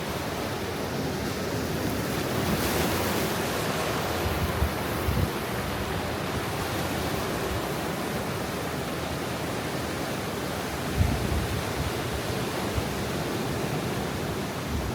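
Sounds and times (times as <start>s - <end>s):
ocean waves breaking: 0.0s - 14.9s.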